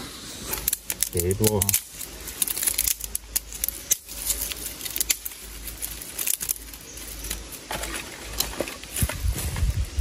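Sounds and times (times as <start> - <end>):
dry twigs clicking and rustling: 0.3 - 10.0.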